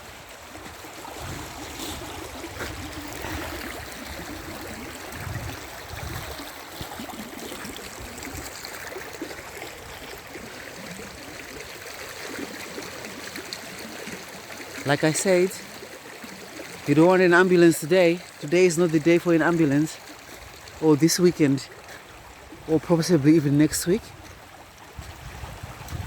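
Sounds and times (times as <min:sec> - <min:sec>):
running water flowing: 0:00.0 - 0:26.0.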